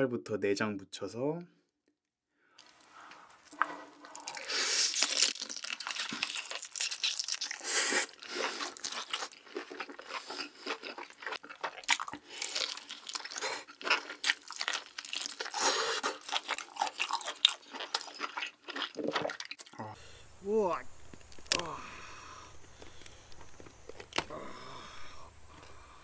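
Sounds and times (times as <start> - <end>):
crunchy biting and chewing: 3.4 - 26.0.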